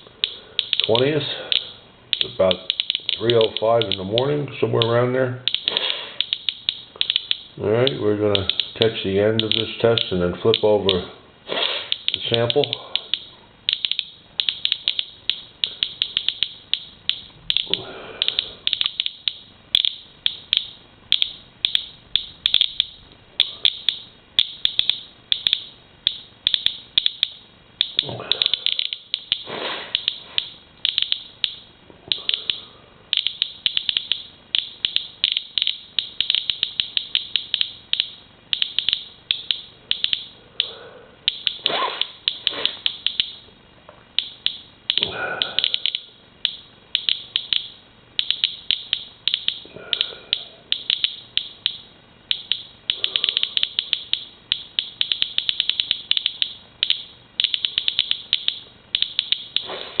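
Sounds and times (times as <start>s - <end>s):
geiger counter clicking: 0.0s - 11.1s, 11.9s - 43.5s, 44.1s - 60.0s.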